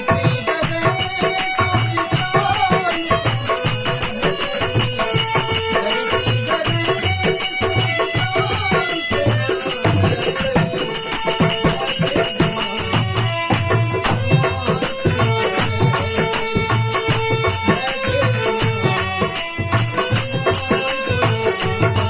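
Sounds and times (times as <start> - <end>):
folk music with drum beat: 0.0 - 22.0.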